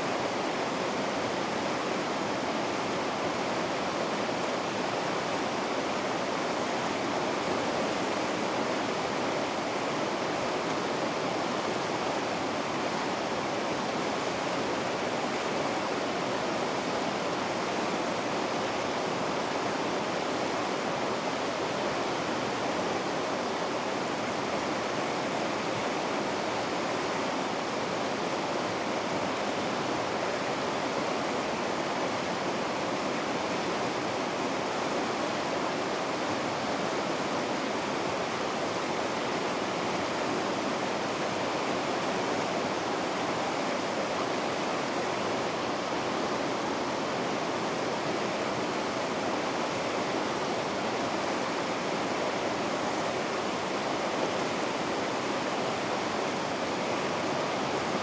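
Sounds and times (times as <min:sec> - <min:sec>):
water rushing through rapids: 0:00.0 - 0:58.0.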